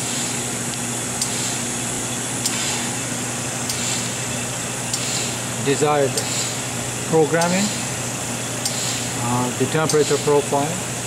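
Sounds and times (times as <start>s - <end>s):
oven hum and hiss: 0.0s - 11.0s.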